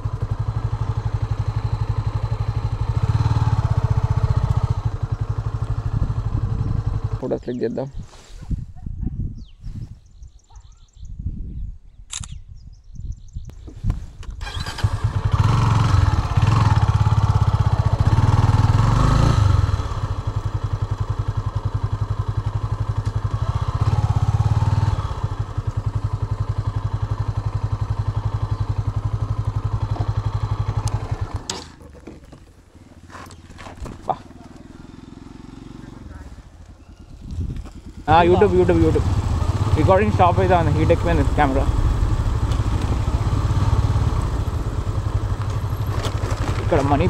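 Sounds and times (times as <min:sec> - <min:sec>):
motorcycle engine revving and idling: 0:00.0 - 0:07.7, 0:14.4 - 0:47.0.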